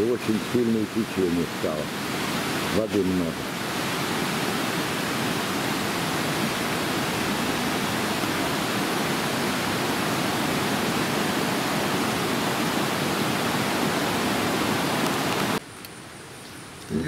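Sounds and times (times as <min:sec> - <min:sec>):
river rushing: 0:00.0 - 0:15.6.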